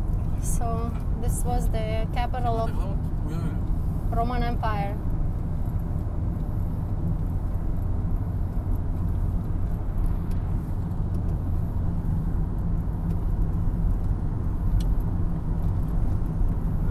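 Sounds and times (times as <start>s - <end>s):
car engine and tyre rumble: 0.0s - 16.9s.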